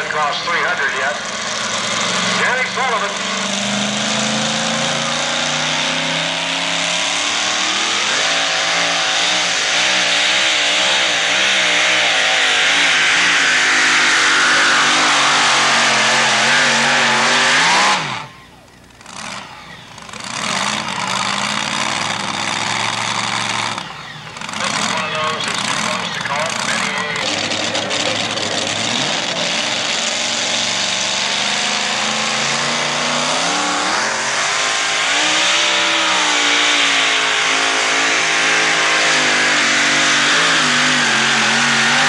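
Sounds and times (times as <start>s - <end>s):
quieter engine: 0.0s - 42.0s
truck engine at full throttle: 0.0s - 42.0s.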